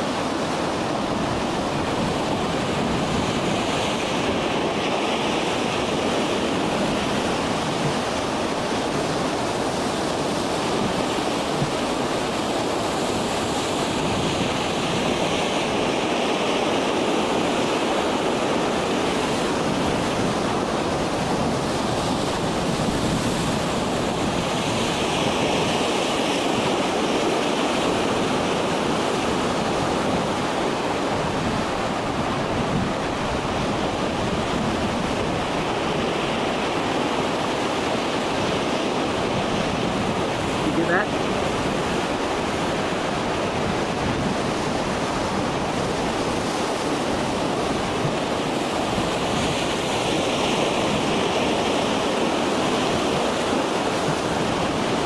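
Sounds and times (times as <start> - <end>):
breaking surf: 0.0 - 55.0
wind: 0.0 - 55.0.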